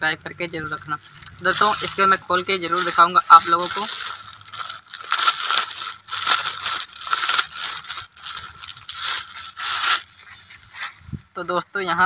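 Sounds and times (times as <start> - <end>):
thin plastic crinkling: 0.7 - 11.0.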